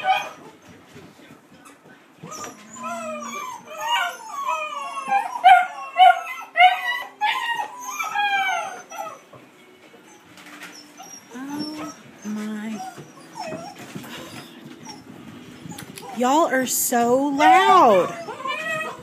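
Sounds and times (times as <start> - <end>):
dogs howling and whining: 0.0 - 0.8, 2.2 - 19.0.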